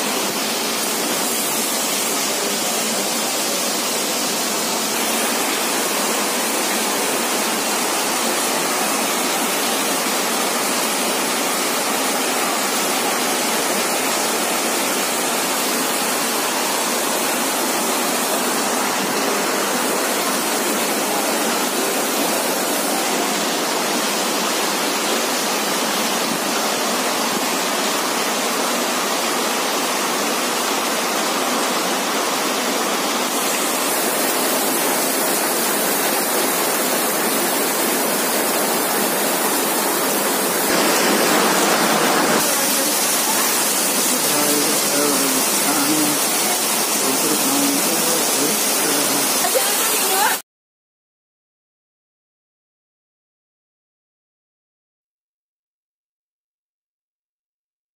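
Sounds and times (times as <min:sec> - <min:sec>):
running water rushing: 0:00.0 - 0:50.4.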